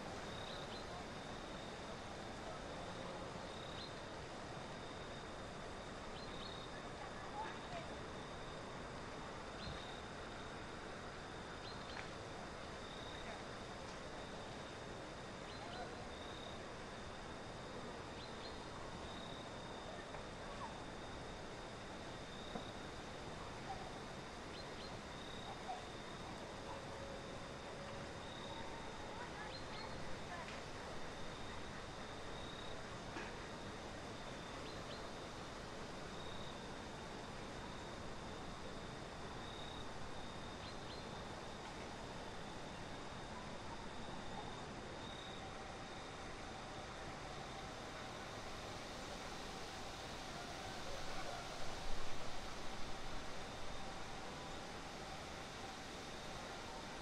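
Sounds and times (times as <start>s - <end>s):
faint high steady tones: 0.0s - 57.0s
high insect trill: 0.0s - 57.0s
steady background hiss: 0.0s - 57.0s.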